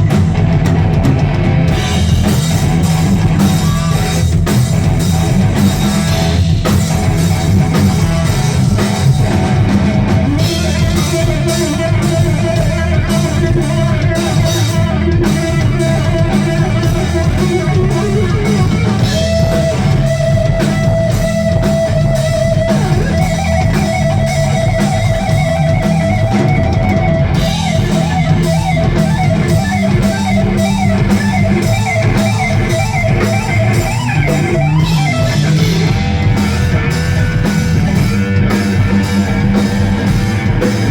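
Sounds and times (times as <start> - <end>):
electric guitar lead lines: 0.0 - 40.9
pounding drum kit: 0.0 - 40.9.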